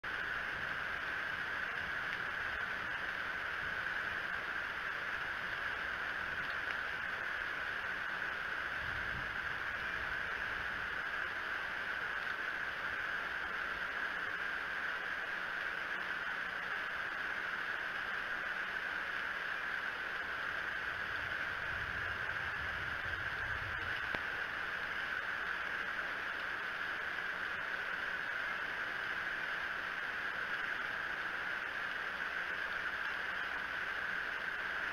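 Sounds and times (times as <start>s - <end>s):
rain hissing on microphone: 0.0s - 34.9s.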